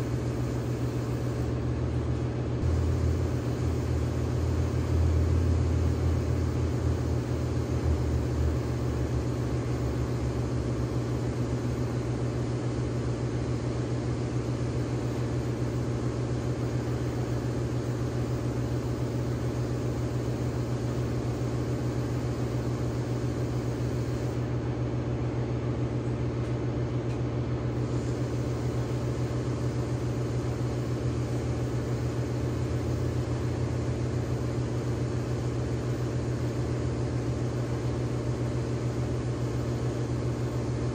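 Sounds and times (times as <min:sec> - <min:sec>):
machinery hum with hiss: 0:00.0 - 0:40.9.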